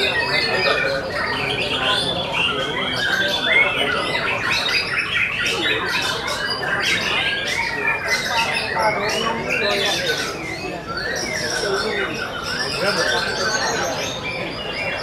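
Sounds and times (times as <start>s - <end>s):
birds singing whistled phrases: 0.0s - 15.0s.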